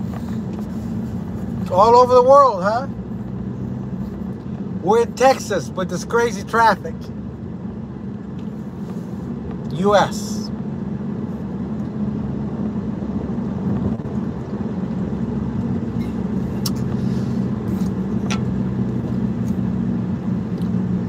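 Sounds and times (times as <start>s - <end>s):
car cabin engine and tyre drone: 0.0s - 21.0s.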